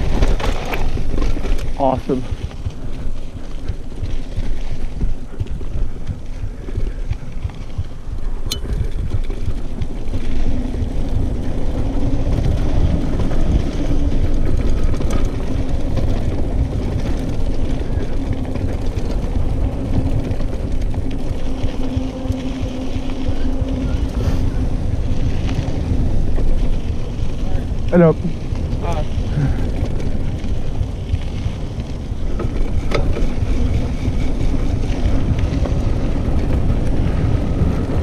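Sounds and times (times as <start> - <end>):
bike tyres and frame rattling: 0.0 - 38.0
low steady hum: 0.0 - 38.0
wind buffeting microphone: 0.0 - 38.0.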